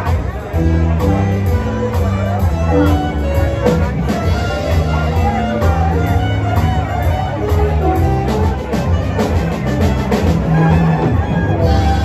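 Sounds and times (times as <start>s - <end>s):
jazz band playing swing: 0.0s - 12.0s
walking bass line: 0.0s - 12.0s.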